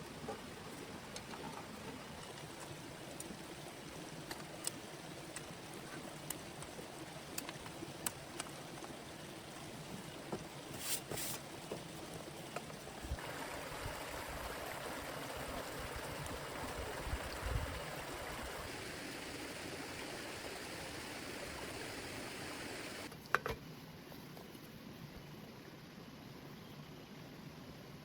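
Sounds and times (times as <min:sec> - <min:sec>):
heavy rain and running water: 0:00.0 - 0:23.1
quiet hiss: 0:00.0 - 0:28.0.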